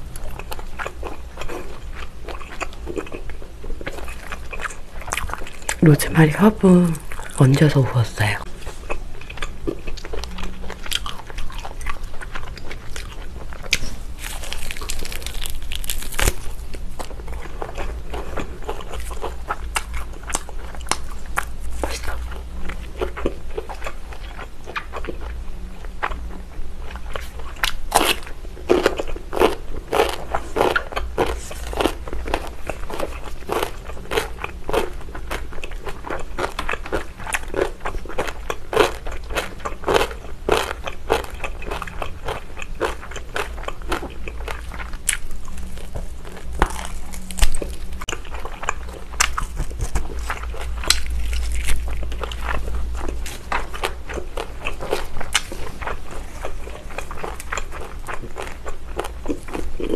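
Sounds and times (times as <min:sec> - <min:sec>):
crunching and chewing food: 0:00.0 - 0:59.9.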